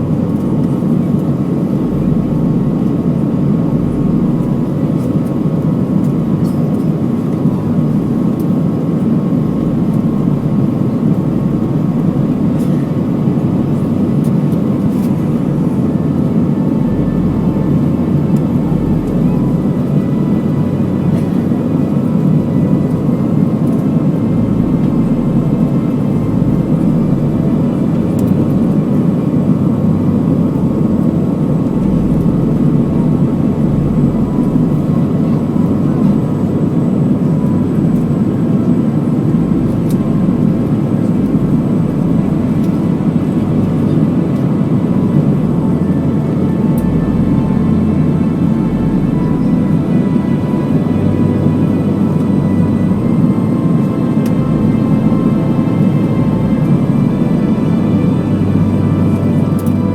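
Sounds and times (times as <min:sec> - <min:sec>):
airplane cabin roar: 0:00.0 - 0:59.9
faint steady whine: 0:00.0 - 0:59.9.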